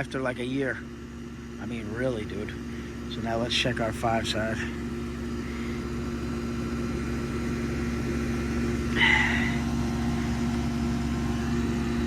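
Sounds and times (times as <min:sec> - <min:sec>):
air conditioner unit humming: 0:01.0 - 0:12.0.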